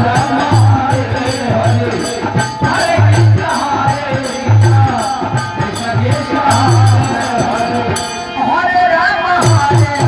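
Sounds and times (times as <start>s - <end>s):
drum beating: 0.0s - 8.4s, 9.4s - 10.0s
jingling percussion: 0.0s - 8.7s, 9.4s - 10.0s.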